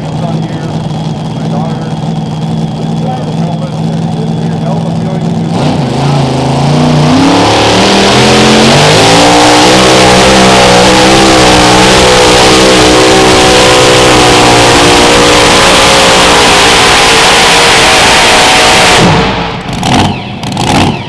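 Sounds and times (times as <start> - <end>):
tractor engine at full throttle: 0.0 - 21.0.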